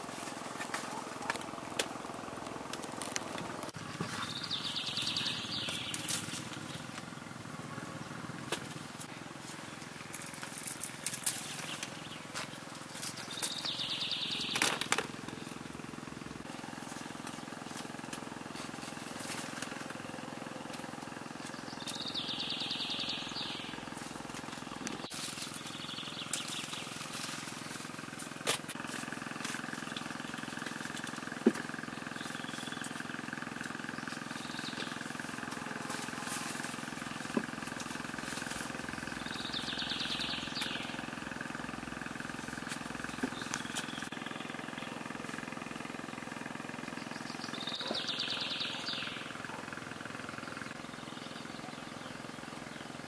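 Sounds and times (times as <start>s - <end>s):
vines and leaves rustling: 0.0s - 53.0s.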